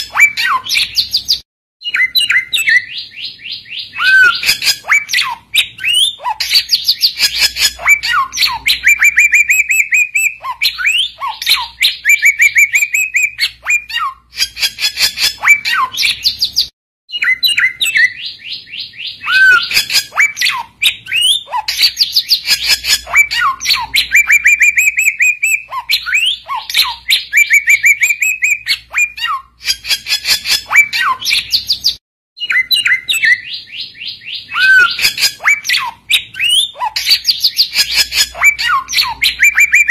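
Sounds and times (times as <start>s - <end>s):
bird song chattering chirps: 0.0s - 39.9s.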